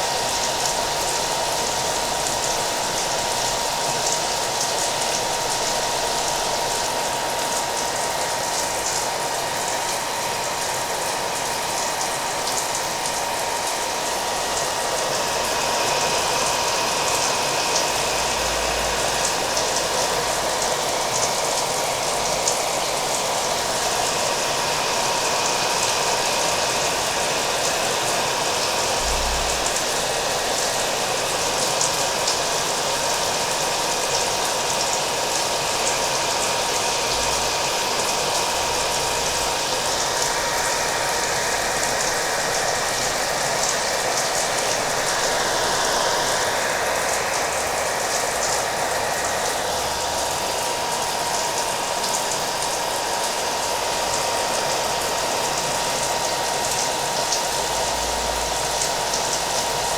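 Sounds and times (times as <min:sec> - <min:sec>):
hair dryer running: 0:00.0 - 0:59.9
rain hiss: 0:00.0 - 0:59.9.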